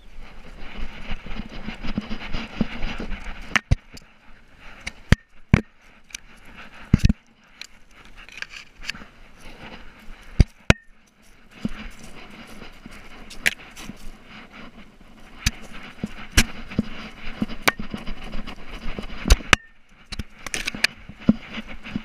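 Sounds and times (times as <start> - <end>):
grass scraping against camera: 0.0 - 22.0.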